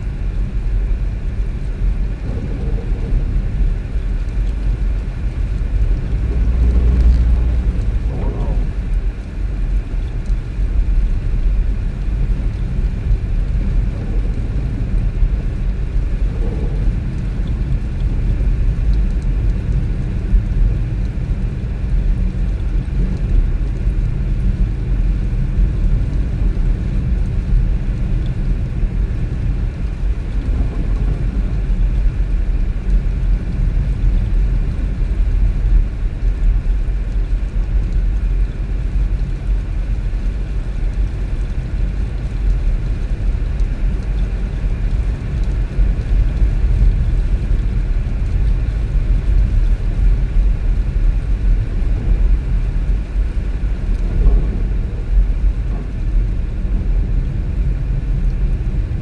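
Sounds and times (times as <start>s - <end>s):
car engine and tyres on road: 0.0s - 59.0s.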